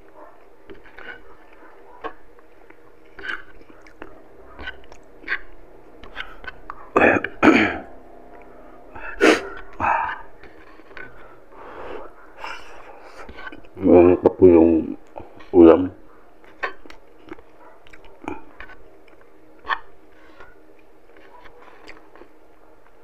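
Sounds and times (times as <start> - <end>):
man chewing: 0.0 - 13.8, 16.1 - 23.0.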